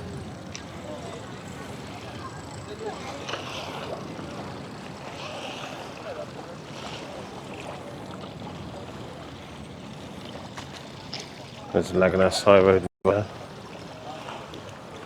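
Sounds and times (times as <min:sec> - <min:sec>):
faint distant voices: 0:00.0 - 0:15.0
small waves on sandy beach: 0:00.0 - 0:15.0.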